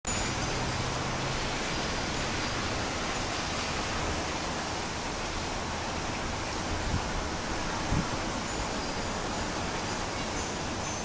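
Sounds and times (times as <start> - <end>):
storm wind and rain rushing: 0.1 - 11.0.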